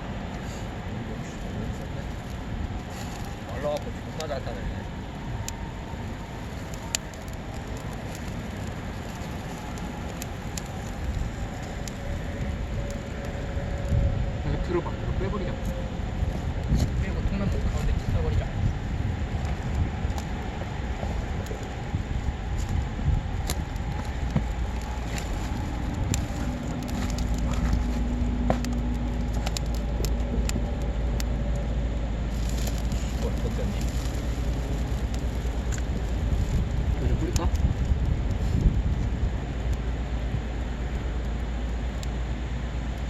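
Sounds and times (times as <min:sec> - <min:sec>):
campfire crackles and pops: 0:00.0 - 0:43.0
low hum: 0:00.0 - 0:43.0
low rumble of fire: 0:00.0 - 0:43.0.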